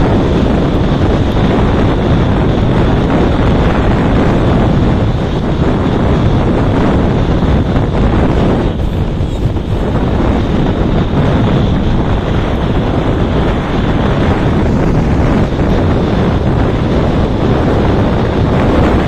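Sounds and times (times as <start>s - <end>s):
motorcycle road noise: 0.0s - 19.0s
wind buffeting microphone: 0.0s - 19.0s.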